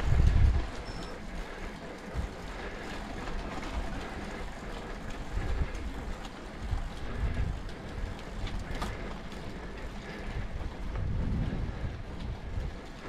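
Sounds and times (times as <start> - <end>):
bicycle tyres hissing on road: 0.0 - 13.0
wind rumbling on microphone: 0.0 - 13.0.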